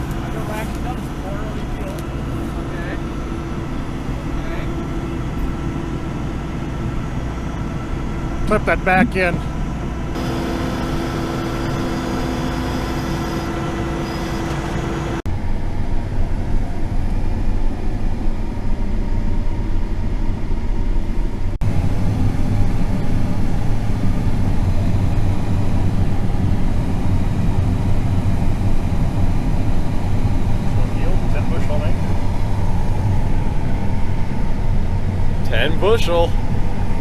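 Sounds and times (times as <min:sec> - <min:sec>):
combine harvester humming: 0:00.0 - 0:37.0
loud dense machine rumble: 0:00.0 - 0:37.0.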